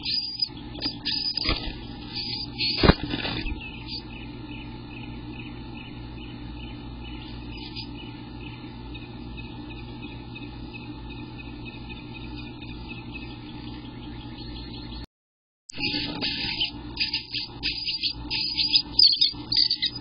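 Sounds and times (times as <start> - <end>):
faint bird chirps: 0.0 - 15.0, 15.8 - 20.0
steady low hum: 0.0 - 15.1, 15.7 - 20.0.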